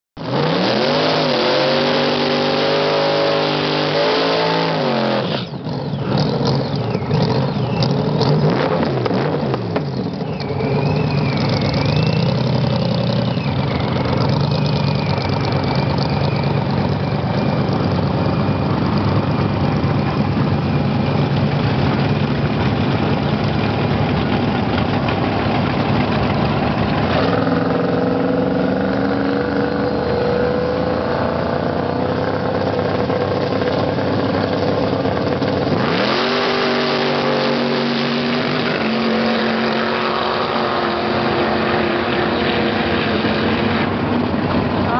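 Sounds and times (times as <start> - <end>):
car engines idling and revving: 0.2 - 44.9.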